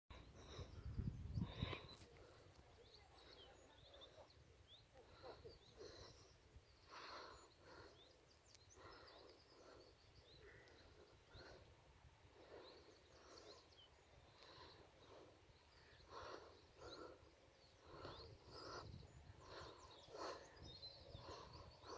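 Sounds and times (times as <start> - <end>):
faint bird chirps: 0.2 - 21.9.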